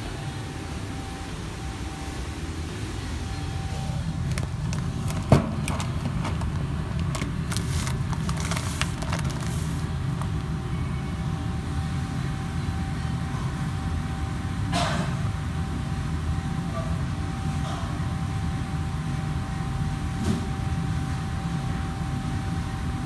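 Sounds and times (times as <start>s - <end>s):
low machinery hum: 0.0s - 23.0s
thin steady whine: 0.0s - 23.0s.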